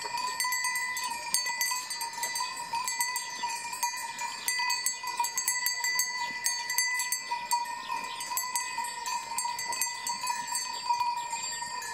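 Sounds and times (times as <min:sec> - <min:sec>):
sheep bells clinking: 0:00.0 - 0:11.9.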